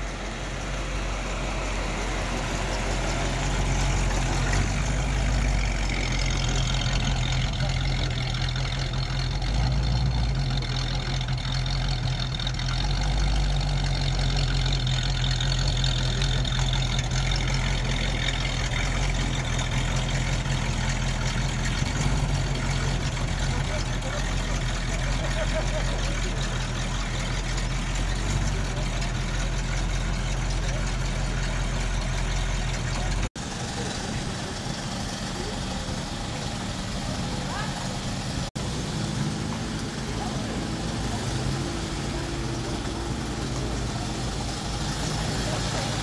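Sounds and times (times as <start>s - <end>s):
car engine running: 0.0s - 46.0s.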